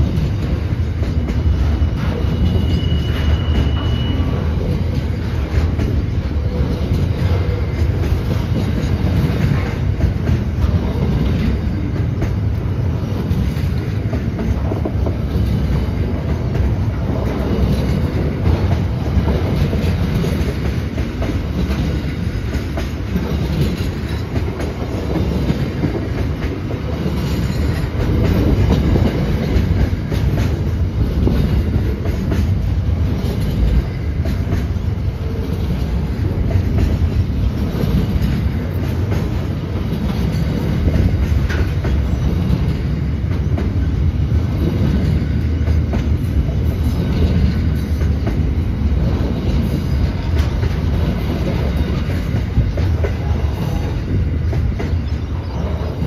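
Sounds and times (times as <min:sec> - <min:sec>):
freight train rolling past: 0:00.0 - 0:56.0
steel wheels on rails: 0:00.0 - 0:56.0.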